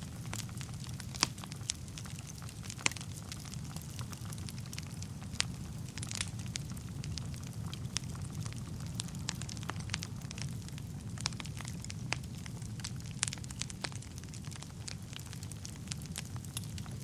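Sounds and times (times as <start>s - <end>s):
burning logs popping and crackling: 0.0s - 17.0s
fire flames rumbling: 0.0s - 17.0s.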